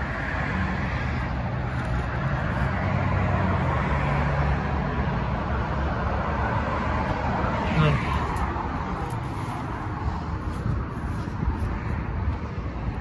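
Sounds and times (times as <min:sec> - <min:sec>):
cars passing on busy road: 0:00.0 - 0:13.0.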